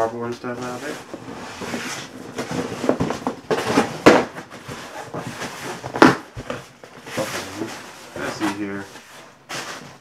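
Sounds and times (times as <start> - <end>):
cardboard rustling and scraping: 0.0 - 10.0.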